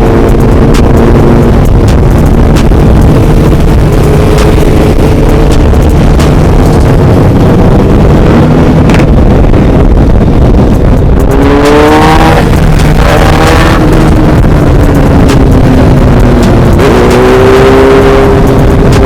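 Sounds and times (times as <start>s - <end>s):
motorcycle engine revving: 0.0s - 19.0s
motorcycle engines running: 0.0s - 19.0s.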